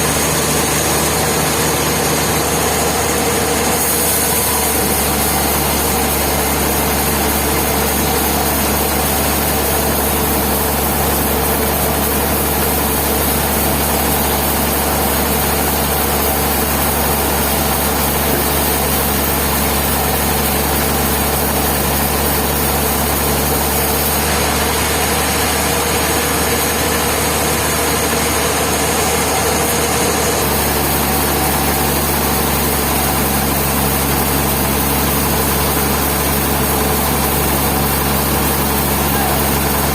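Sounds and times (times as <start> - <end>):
sawmill machinery hum: 0.0 - 39.9.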